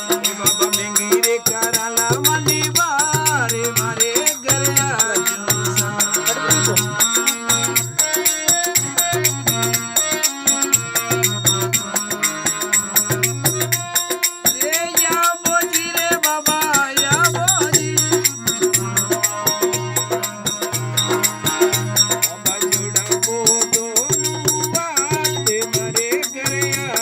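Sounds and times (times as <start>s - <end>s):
jingling rattle and tambourine: 0.0s - 27.0s
person singing devotional song: 0.0s - 27.0s.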